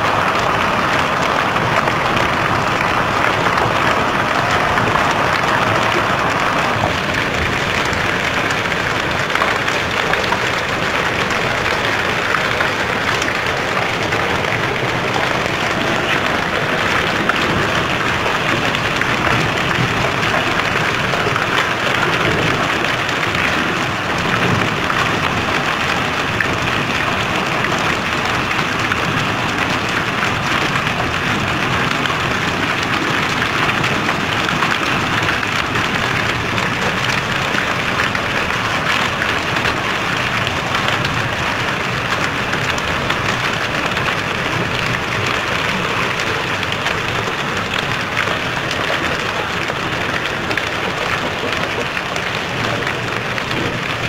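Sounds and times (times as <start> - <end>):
hail and heavy rain on concrete: 0.0 - 54.0.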